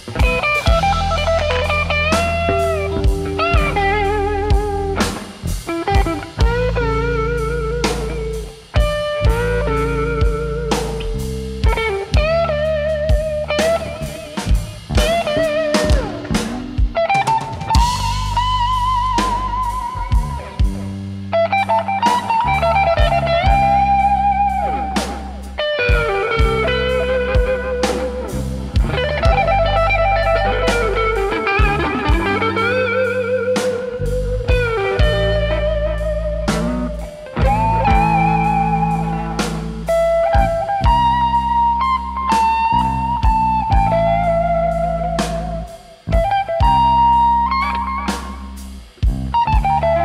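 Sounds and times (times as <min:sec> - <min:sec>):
drum kit: 0:00.0 - 0:50.0
electric bass: 0:00.0 - 0:50.0
electric guitar solo: 0:00.0 - 0:50.0.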